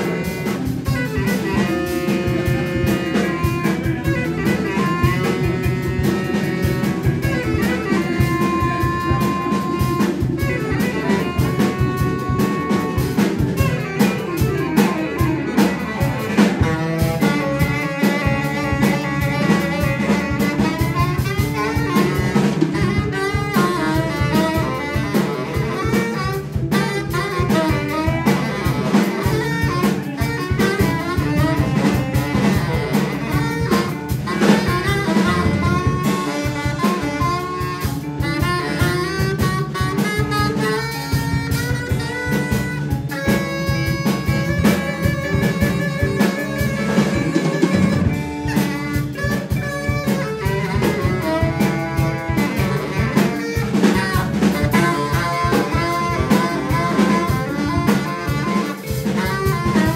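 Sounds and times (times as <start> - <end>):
bass: 0.0 - 59.9
drum kit: 0.0 - 59.9
electric guitar: 0.0 - 59.9
saxophone: 0.0 - 59.9.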